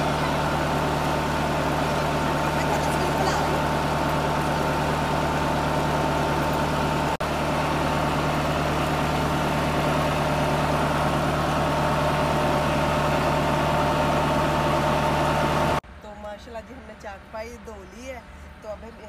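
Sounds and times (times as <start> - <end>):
water pump humming: 0.0 - 15.8.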